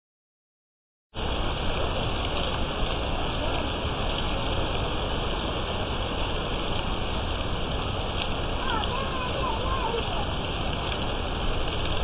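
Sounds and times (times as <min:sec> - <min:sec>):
wind and rain storm: 0:01.1 - 0:12.0.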